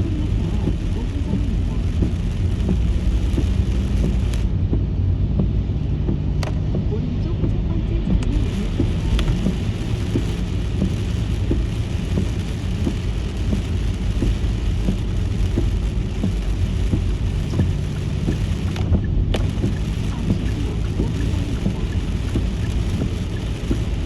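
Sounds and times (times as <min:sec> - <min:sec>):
rain and tyre spray hiss: 0:00.0 - 0:04.6, 0:08.3 - 0:24.0
low road rumble: 0:00.0 - 0:24.0
raindrops tapping: 0:00.0 - 0:24.0.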